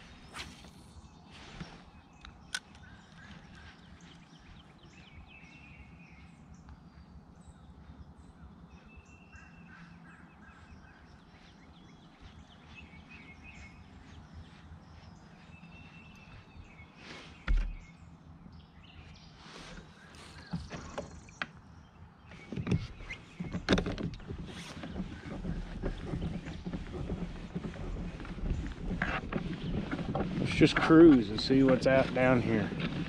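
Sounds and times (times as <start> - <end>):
birds calling: 0.0 - 33.0
faint outdoor background: 0.0 - 33.0.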